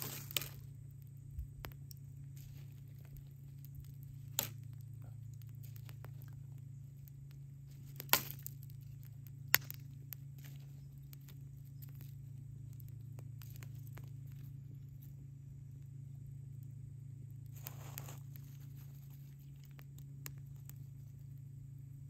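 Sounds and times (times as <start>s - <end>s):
dry twigs snapping: 0.0s - 15.2s, 17.3s - 21.3s
small crackles and clicks: 0.0s - 22.0s
steady low hum: 0.0s - 22.0s.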